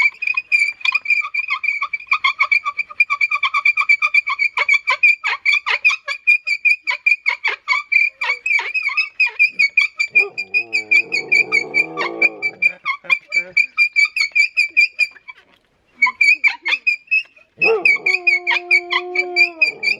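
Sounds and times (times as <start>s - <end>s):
bow drill squealing: 0.0s - 15.2s, 16.0s - 19.9s.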